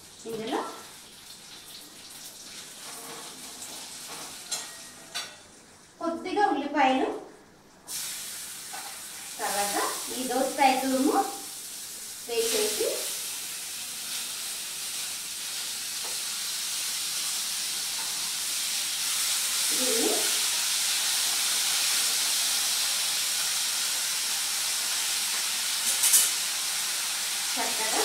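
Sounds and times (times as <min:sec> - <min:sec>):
vegetables sizzling in hot oil: 0:00.0 - 0:05.6, 0:07.9 - 0:28.0.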